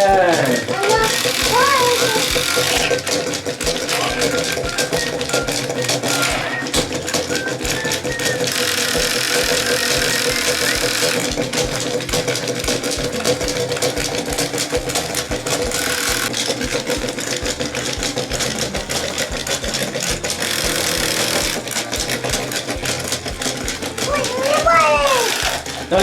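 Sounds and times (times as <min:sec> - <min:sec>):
toy clicking as it waddles: 0:00.0 - 0:26.0
walking toy motor and gears: 0:00.0 - 0:26.0.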